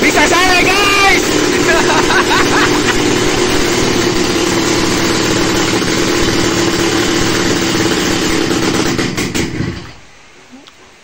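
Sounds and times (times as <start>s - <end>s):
two-stroke motorcycle engine idling: 0.0s - 10.0s.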